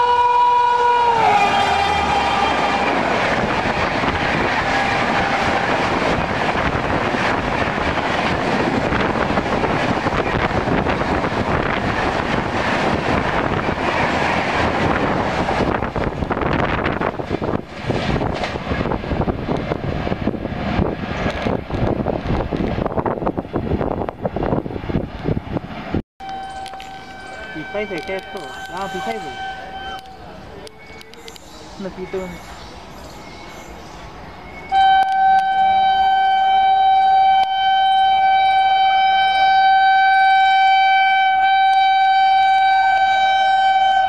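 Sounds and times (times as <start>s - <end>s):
passenger train passing at speed: 0.0s - 44.0s.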